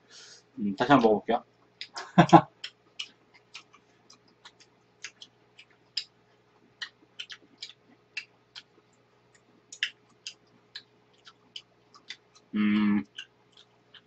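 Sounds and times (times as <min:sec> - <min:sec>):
faint steady hum: 0:00.0 - 0:14.0
wet chewing mouth clicks: 0:01.8 - 0:14.0.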